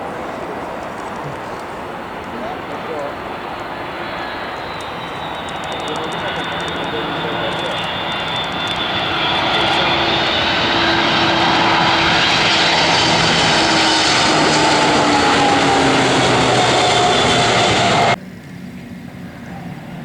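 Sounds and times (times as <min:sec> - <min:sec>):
airplane engine passing: 0:00.0 - 0:20.0.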